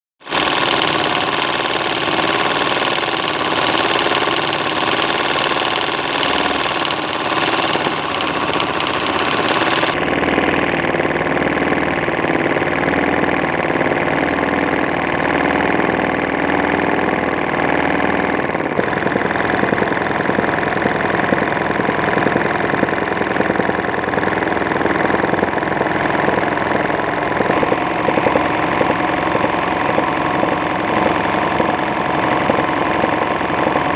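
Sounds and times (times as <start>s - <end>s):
embroidery machine running: 0.2s - 33.9s.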